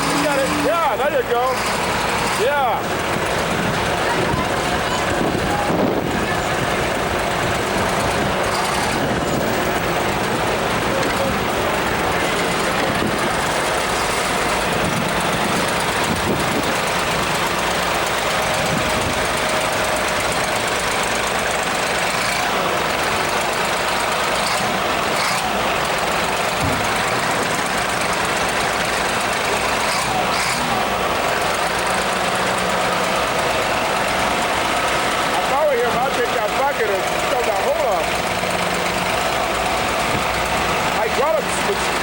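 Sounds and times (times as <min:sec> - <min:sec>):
loader engine running: 0:00.0 - 0:42.0.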